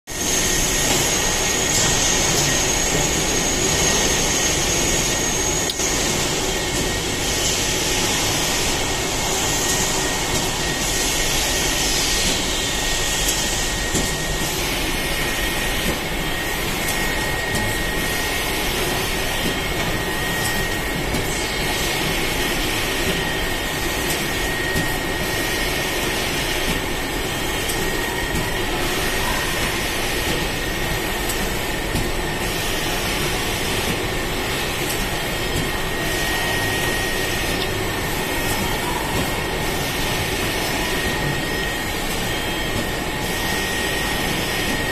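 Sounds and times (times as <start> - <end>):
machine mechanical drone: 0.1 - 44.9.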